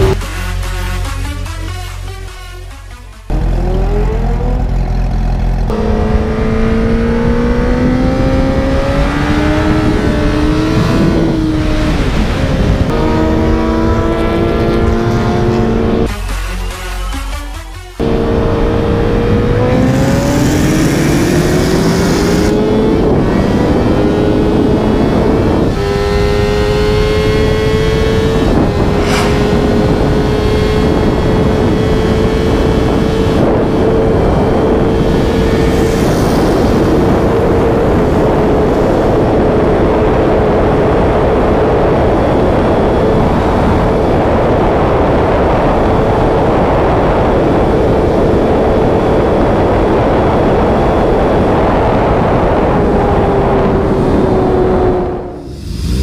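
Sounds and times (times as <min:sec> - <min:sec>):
motorcycle engine revving through gears: 0:00.0 - 0:02.1, 0:03.2 - 0:16.1, 0:18.0 - 0:56.0
loud wind rush: 0:05.7 - 0:16.1, 0:18.1 - 0:56.0.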